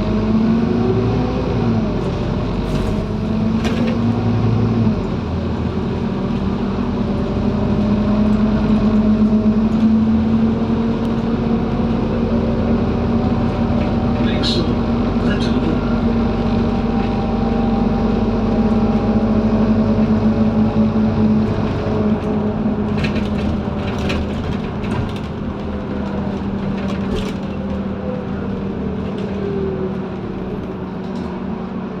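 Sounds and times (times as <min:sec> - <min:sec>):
bus diesel engine from inside: 0:00.0 - 0:32.0.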